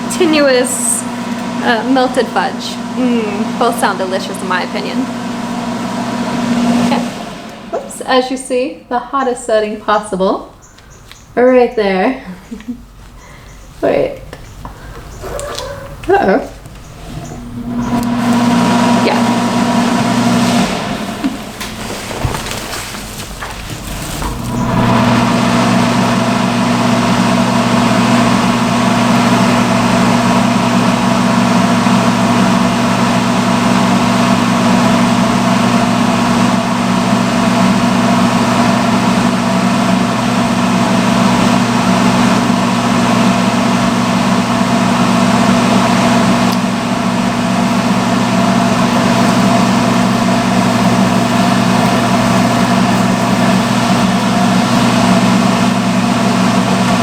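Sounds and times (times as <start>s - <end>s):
hood hair dryer running: 0.0s - 8.9s, 17.0s - 57.0s.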